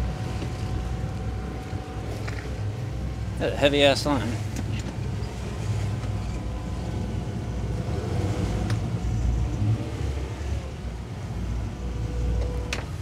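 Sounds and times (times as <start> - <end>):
boat engines rumbling: 0.0 - 13.0
rush of boat wake: 0.0 - 13.0.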